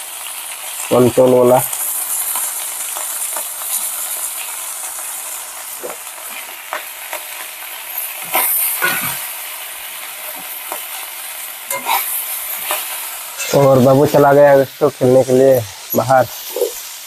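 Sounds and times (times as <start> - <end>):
skin sizzling in hot oil: 0.0 - 17.0.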